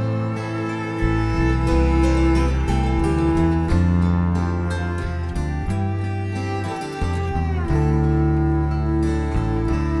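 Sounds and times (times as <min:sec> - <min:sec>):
slow sad string instrumental: 0:00.0 - 0:10.0.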